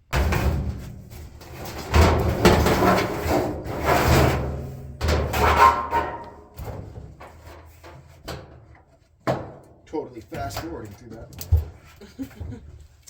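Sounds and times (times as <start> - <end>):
sheet metal clattering and banging: 0.0 - 12.7.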